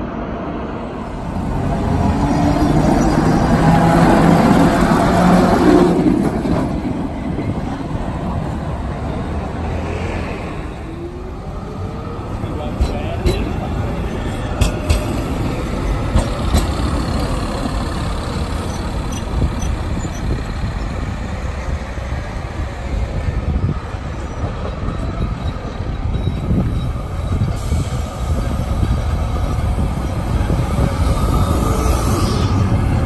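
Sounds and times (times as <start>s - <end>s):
trams rolling rumble: 0.0s - 33.0s.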